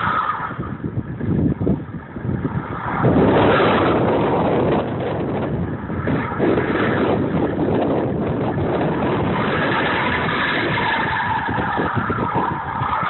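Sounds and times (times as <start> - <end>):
car engine revving: 0.0 - 13.0
wind buffeting microphone: 0.0 - 13.0.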